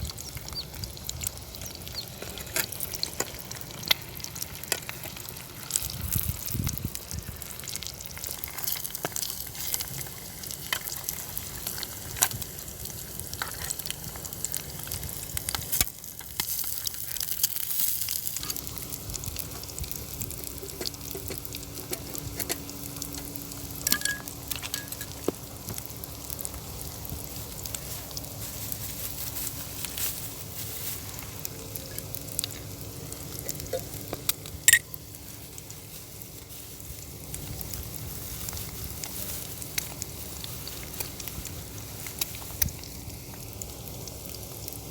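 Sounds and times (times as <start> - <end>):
food sizzling in a pan: 0.0 - 44.9.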